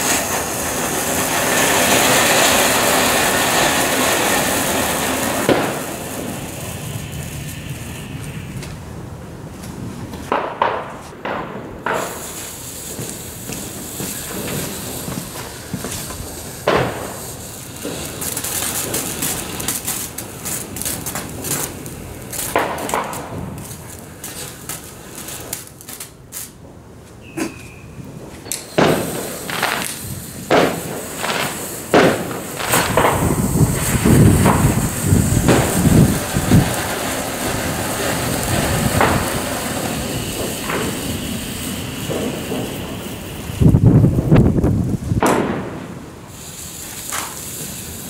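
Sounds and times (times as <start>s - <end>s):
fountain fireworks hissing and crackling: 0.0s - 48.0s.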